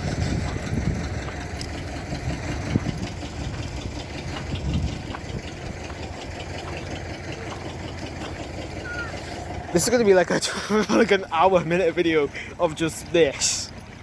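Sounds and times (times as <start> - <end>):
diesel locomotive engine idling: 0.0 - 14.0.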